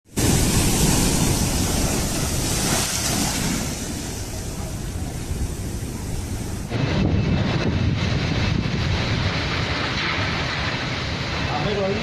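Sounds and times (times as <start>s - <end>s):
heavy rain hiss: 0.1s - 12.0s
wind buffeting microphone: 0.1s - 12.0s.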